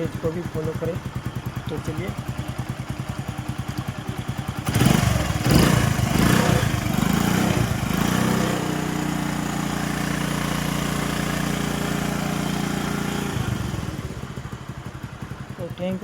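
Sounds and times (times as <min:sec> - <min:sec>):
motorcycle engine revving and idling: 0:00.0 - 0:16.0.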